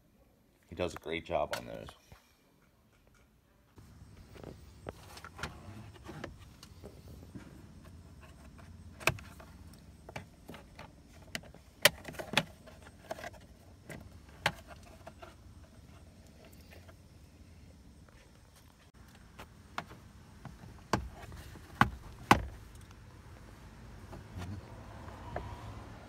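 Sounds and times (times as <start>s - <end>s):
steady low hum: 3.8s - 24.8s.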